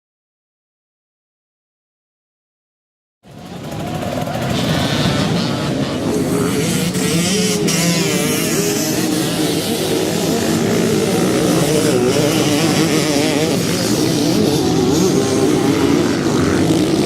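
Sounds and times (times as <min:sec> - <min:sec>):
motocross bike engine revving: 0:03.3 - 0:17.0.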